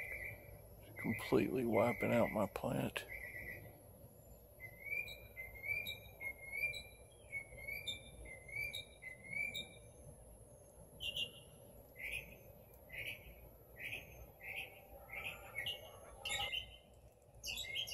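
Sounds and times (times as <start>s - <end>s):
bird chirping: 0.0s - 17.9s.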